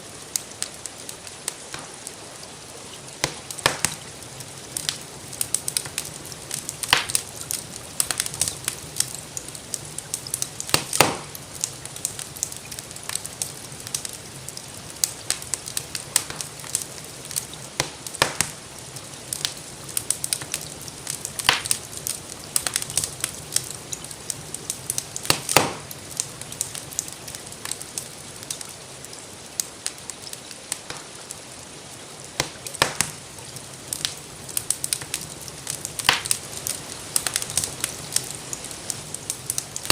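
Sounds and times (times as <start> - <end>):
gentle rain hiss: 0.0 - 39.9
wood fire crackling and popping: 0.0 - 39.9.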